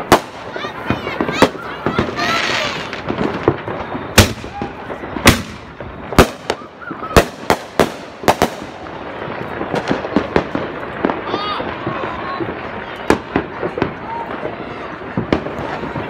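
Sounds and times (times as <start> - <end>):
fireworks bangs: 0.0 - 16.0
small firework pops: 0.0 - 16.0.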